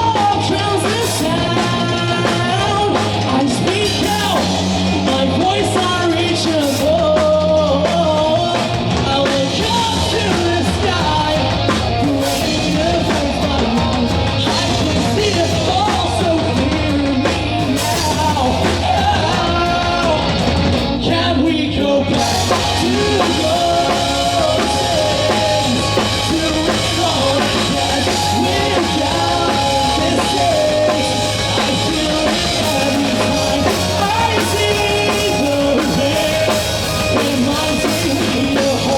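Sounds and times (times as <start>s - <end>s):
bass guitar: 0.0s - 38.9s
drum kit: 0.0s - 38.9s
electric guitar: 0.0s - 38.9s
person singing lead vocal: 0.0s - 38.9s.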